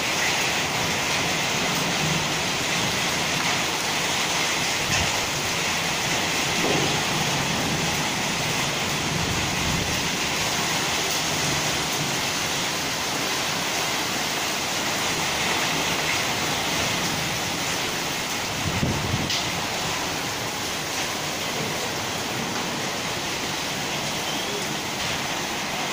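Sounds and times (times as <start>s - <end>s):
hail and rain pelting: 0.0s - 25.9s.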